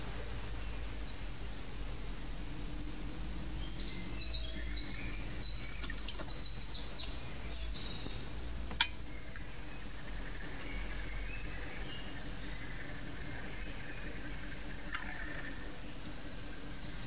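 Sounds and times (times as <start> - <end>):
low steady hum: 0.0 - 17.0
songbird chirping and trilling: 0.3 - 17.0.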